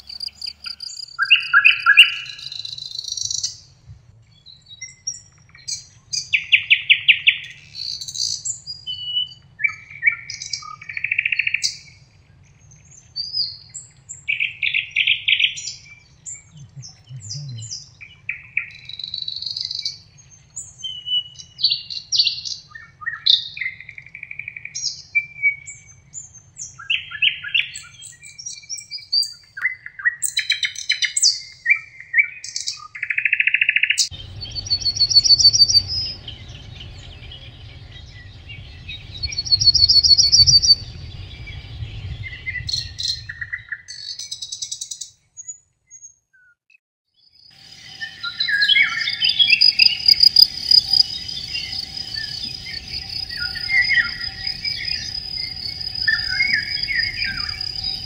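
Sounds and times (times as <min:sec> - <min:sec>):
songbirds singing: 0:00.0 - 0:46.6, 0:47.2 - 0:58.0.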